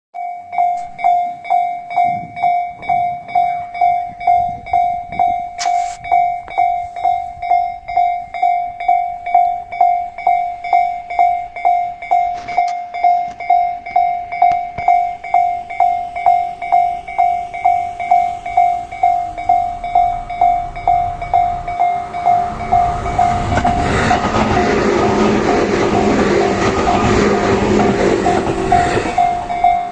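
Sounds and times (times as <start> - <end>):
level-crossing warning bell ringing: 0.2 - 29.9
approaching electric train: 0.5 - 29.9.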